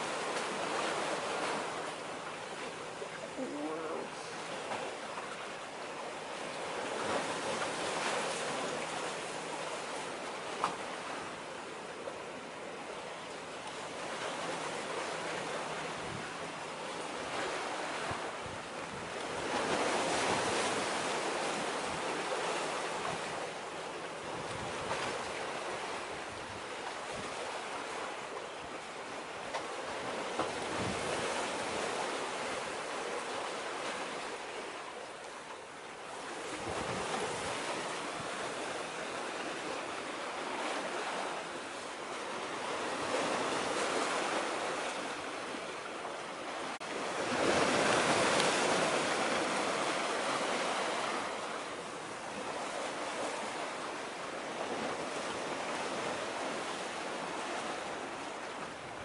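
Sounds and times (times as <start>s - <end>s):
small waves washing ashore: 0.0s - 59.0s.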